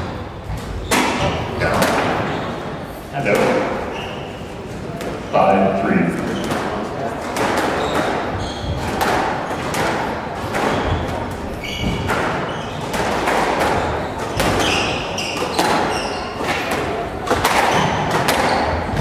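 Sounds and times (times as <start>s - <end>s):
squash ball thumping: 0.0s - 2.4s, 3.2s - 3.9s, 6.2s - 19.0s.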